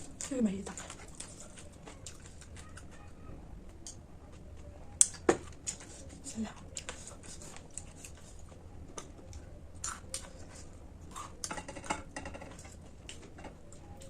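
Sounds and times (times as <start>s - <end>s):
chewing crisp snack food: 0.0s - 14.0s.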